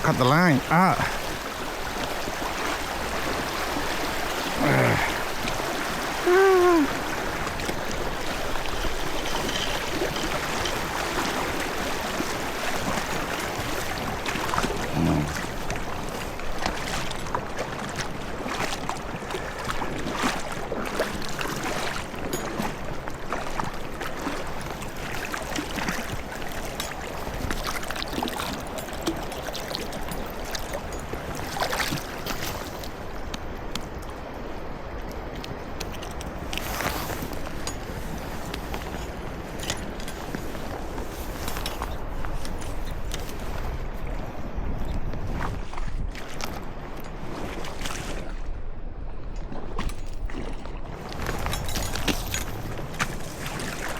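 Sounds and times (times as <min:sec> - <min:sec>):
river water rushing: 0:00.0 - 0:44.5.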